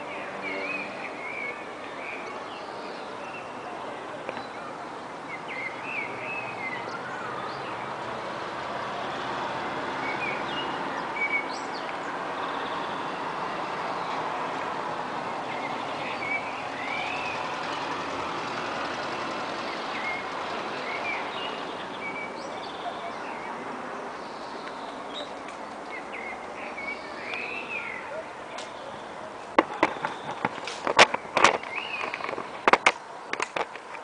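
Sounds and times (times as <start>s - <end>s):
birds chirping: 0.0s - 34.0s
steady outdoor hiss: 0.0s - 34.0s.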